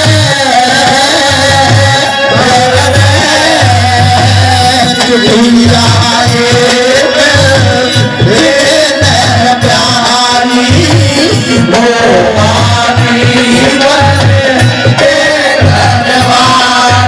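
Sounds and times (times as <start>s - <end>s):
hand drum beats: 0.0s - 17.0s
man singing into microphone: 0.0s - 17.0s.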